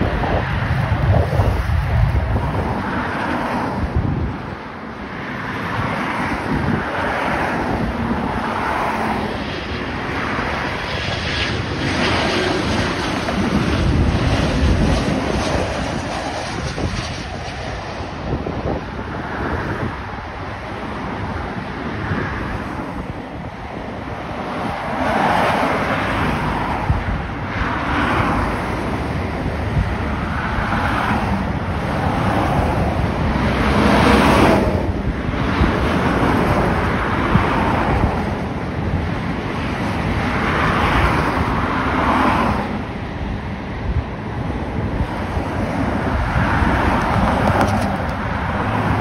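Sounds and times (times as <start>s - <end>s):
engine noise: 0.0s - 49.0s
wind buffeting microphone: 0.0s - 49.0s.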